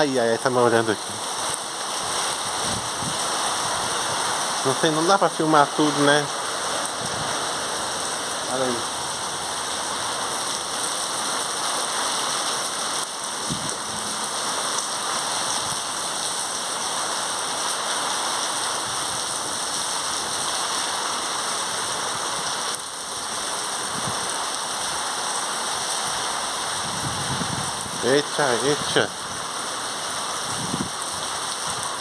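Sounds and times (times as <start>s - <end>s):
rain in a windstorm: 0.0s - 32.0s.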